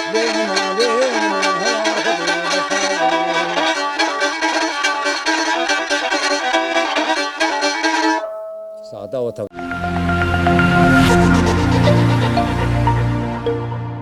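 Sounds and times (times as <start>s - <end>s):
bowed fiddle melody: 0.0s - 14.0s
rhythmic accompaniment: 0.0s - 14.0s.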